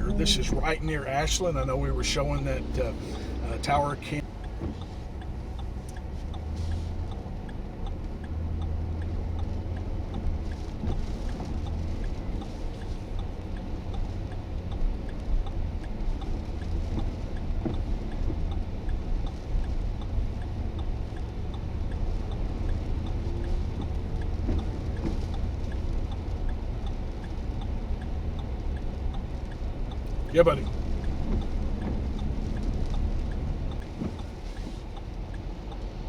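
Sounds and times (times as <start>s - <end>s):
faint regular ticking: 0.0s - 36.0s
vehicle noise from inside: 0.0s - 36.0s.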